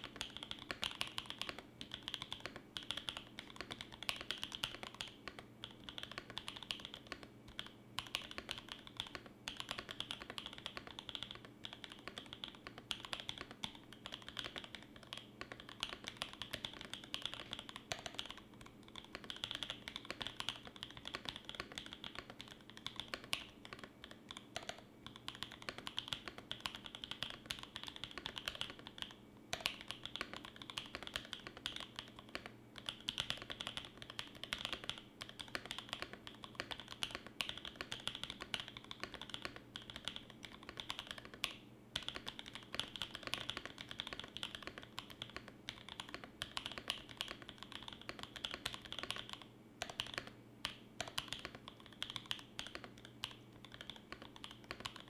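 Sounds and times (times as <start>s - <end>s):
fast typing on mechanical keyboard: 0.0s - 55.0s.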